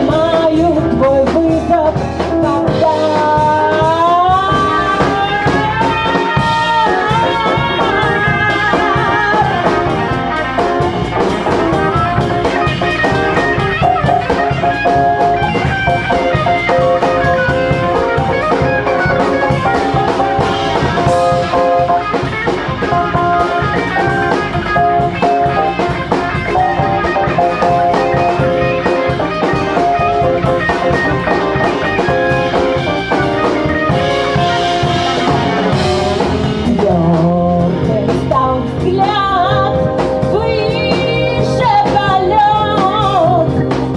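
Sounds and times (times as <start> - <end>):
drums keeping a steady beat: 0.0 - 43.9
lead instrument playing melody: 0.0 - 43.9.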